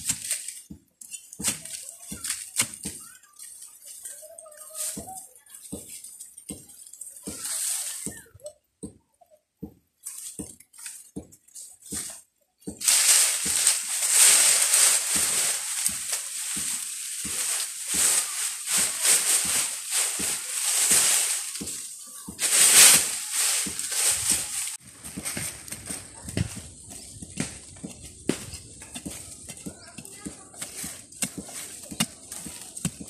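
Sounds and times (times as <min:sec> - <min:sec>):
dry leaves crackling and rustling: 0:00.0 - 0:08.1, 0:10.0 - 0:33.0.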